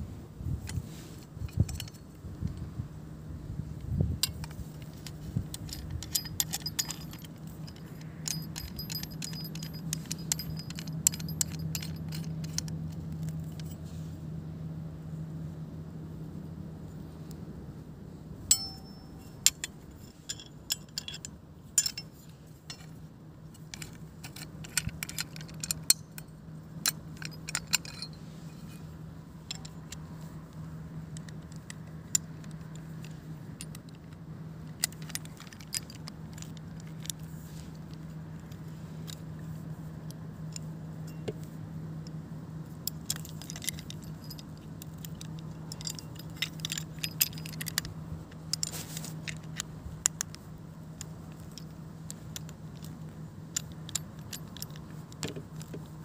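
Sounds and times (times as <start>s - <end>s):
steady low hum: 0.0s - 56.0s
metal parts clicking and clinking: 0.6s - 2.7s, 3.7s - 13.9s, 18.4s - 56.0s.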